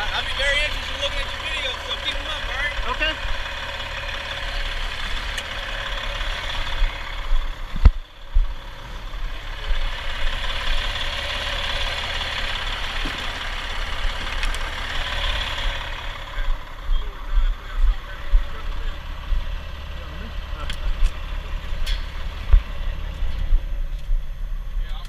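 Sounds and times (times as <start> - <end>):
truck diesel engine idling: 0.0 - 25.0.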